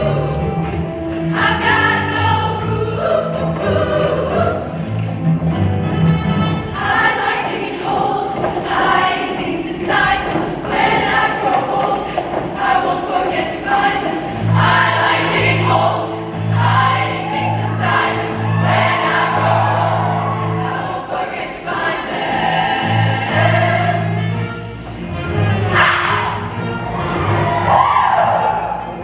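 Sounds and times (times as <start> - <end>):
choir singing in harmony: 0.0 - 4.8, 6.6 - 29.0.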